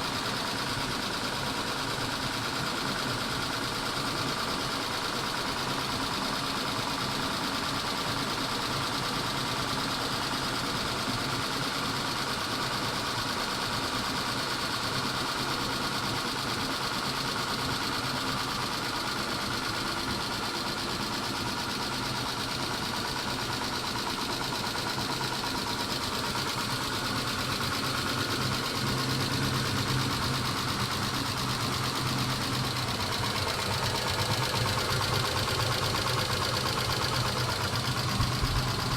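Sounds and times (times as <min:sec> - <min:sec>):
engine idling with ticking: 0:00.0 - 0:38.9.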